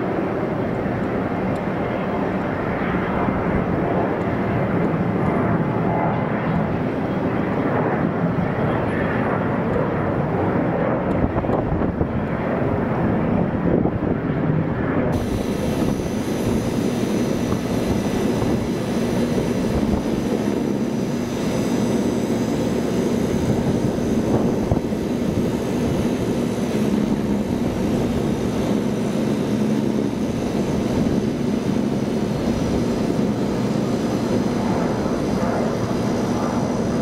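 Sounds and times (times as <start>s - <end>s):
airliner engines rumbling: 0.0s - 37.0s
high engine whine: 0.0s - 37.0s.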